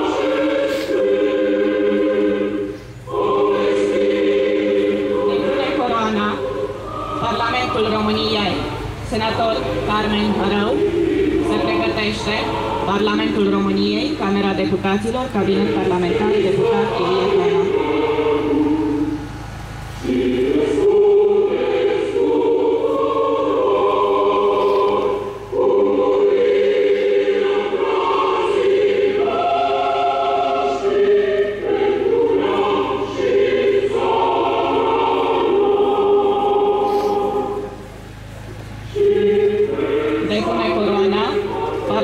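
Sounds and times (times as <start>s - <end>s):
choir singing held notes: 0.0s - 42.0s.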